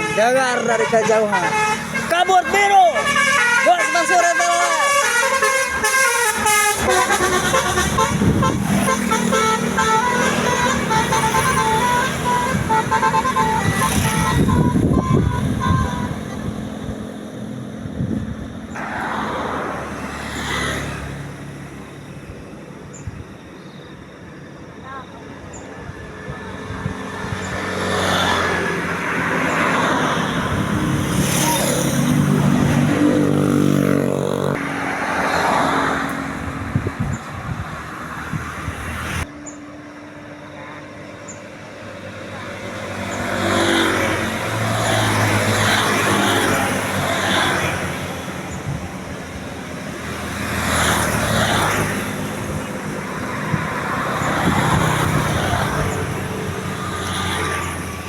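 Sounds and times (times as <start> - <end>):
road vehicles passing: 0.0 - 58.0.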